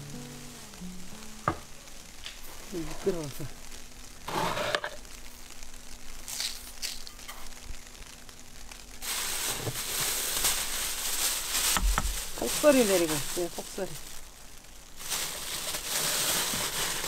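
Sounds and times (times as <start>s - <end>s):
plastic sheet crinkling: 1.7s - 17.0s.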